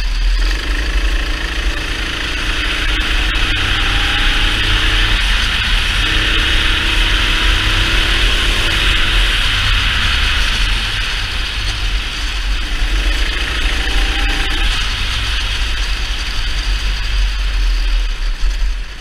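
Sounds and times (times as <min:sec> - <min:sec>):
go-kart engine: 0:00.0 - 0:19.0
wind rumble on microphone: 0:00.0 - 0:19.0.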